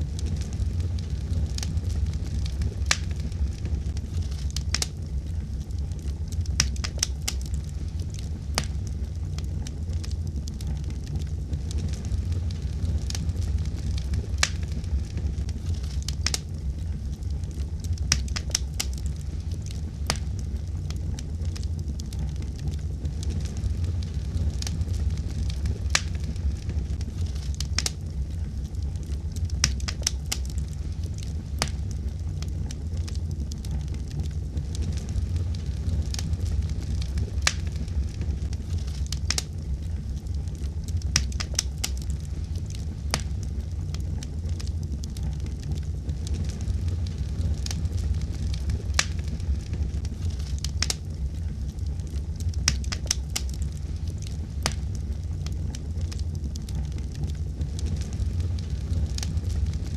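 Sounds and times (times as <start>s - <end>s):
fire crackles and pops: 0.0s - 59.9s
fire rumbling: 0.0s - 59.9s.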